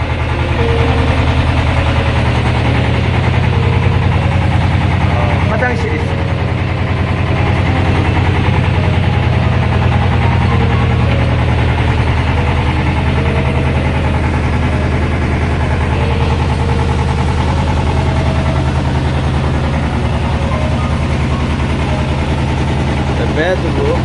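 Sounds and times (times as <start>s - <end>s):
boat engine low hum: 0.0s - 24.0s.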